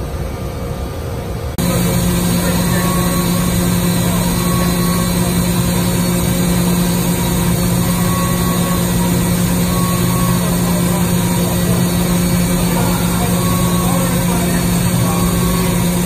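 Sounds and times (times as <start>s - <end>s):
machine tool drone: 0.0s - 16.0s.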